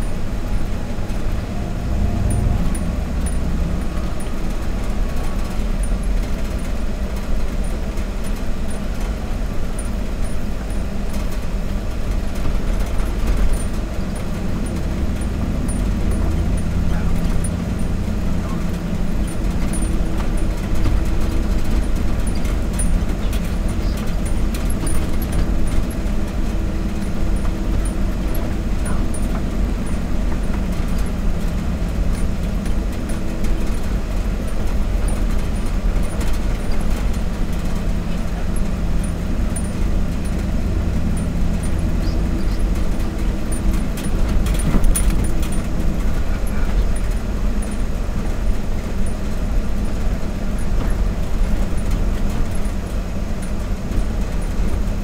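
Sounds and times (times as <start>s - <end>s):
vehicle engine and tyre rumble: 0.0s - 55.0s
knocks and rattles from bumps: 9.8s - 55.0s.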